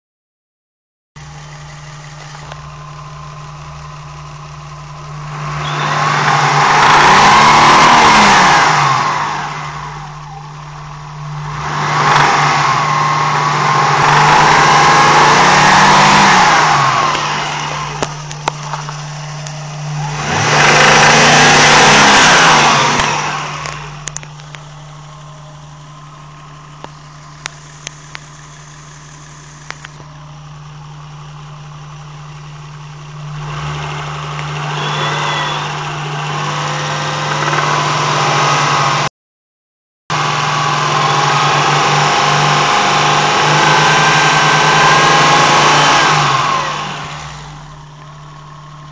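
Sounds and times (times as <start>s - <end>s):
engine idling and revving: 1.2s - 39.1s, 40.1s - 48.9s.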